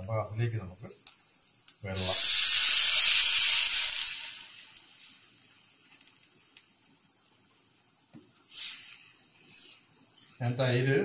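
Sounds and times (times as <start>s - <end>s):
pan sizzling: 0.0s - 7.7s, 8.4s - 10.5s.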